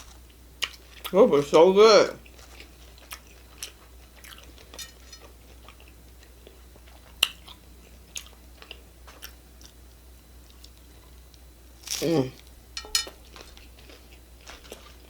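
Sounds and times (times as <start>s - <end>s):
person chewing crunchy taco: 0.0s - 1.2s, 2.2s - 15.0s.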